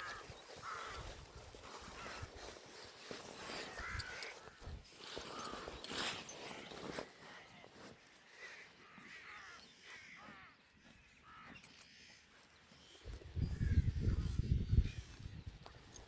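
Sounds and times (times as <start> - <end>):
falling bird calls: 0.0 - 2.6, 3.4 - 16.0.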